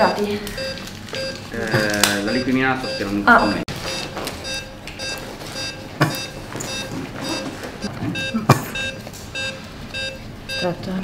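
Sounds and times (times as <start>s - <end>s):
patient monitor beeping: 0.0s - 11.0s.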